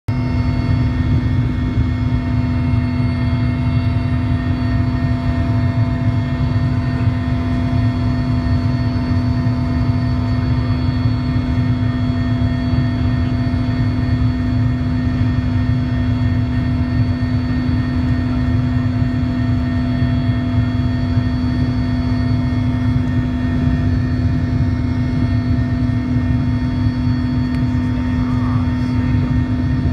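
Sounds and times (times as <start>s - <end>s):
helicopter cabin drone: 0.1s - 29.9s.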